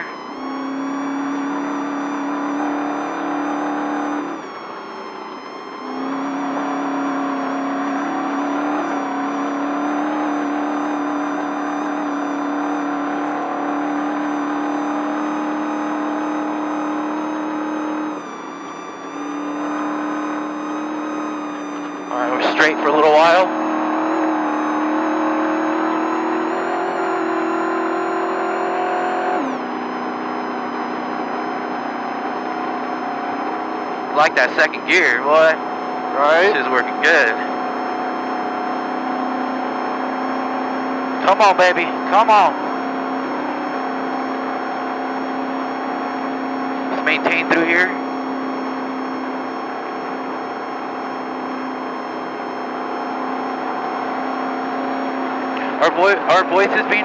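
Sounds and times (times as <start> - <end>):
truck engine running hard: 0.0 - 57.0.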